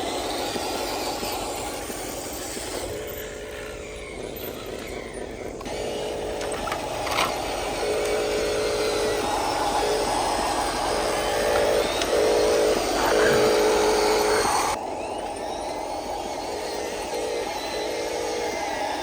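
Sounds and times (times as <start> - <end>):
toy truck motor whine: 0.0 - 19.0.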